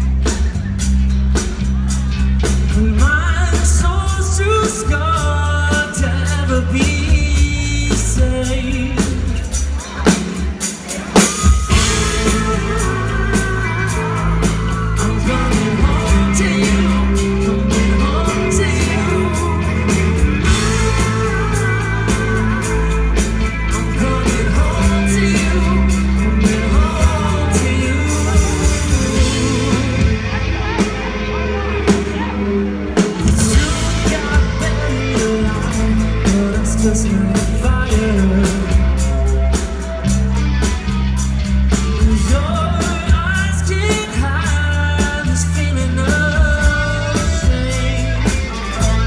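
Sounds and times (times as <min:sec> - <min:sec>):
lead singer: 0:00.0 - 0:49.0
live rock band: 0:00.0 - 0:49.0.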